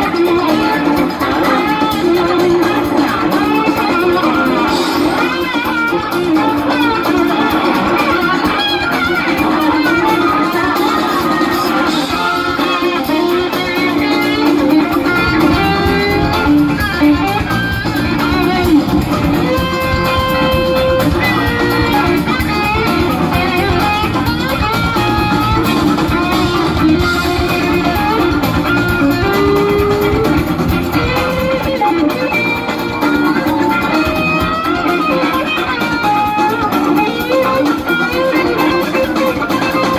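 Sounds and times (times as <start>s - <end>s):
drum beat: 0.0s - 39.9s
electric guitars playing lead lines: 0.0s - 39.9s.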